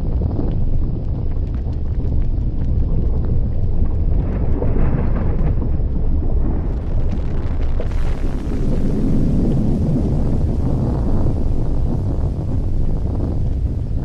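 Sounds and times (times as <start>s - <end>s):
small crackles: 0.0s - 14.0s
volcanic eruption rumble: 0.0s - 14.0s.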